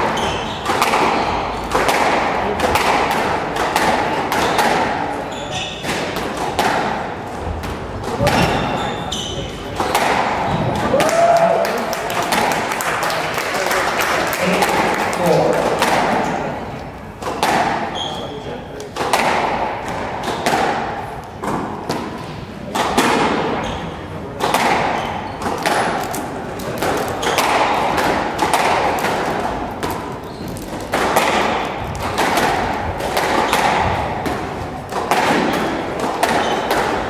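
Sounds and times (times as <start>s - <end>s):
squash ball hits echoing: 0.0s - 37.0s.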